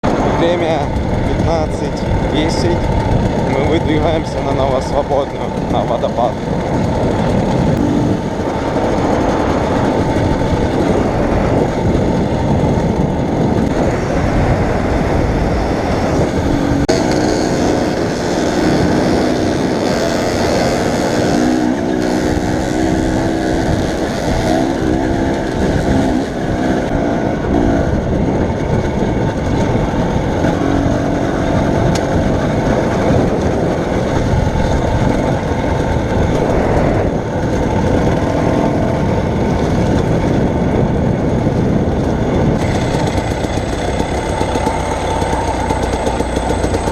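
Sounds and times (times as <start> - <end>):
steady tones: 0.0 - 39.4
vehicle road and engine roar: 0.0 - 46.9.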